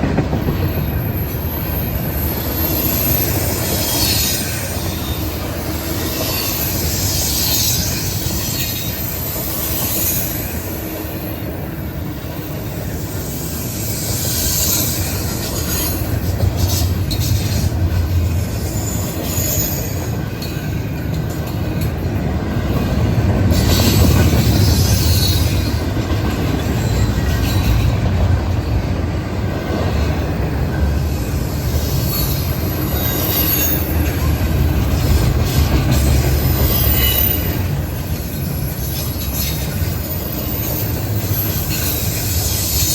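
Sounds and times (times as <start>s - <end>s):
train rumble: 0.0s - 42.9s
train wheels squealing on rail: 0.0s - 42.9s.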